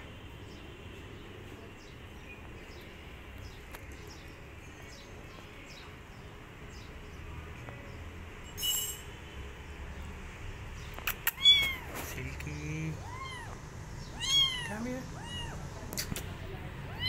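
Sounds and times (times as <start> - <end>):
small birds chirping: 0.0 - 8.4, 9.0 - 17.0.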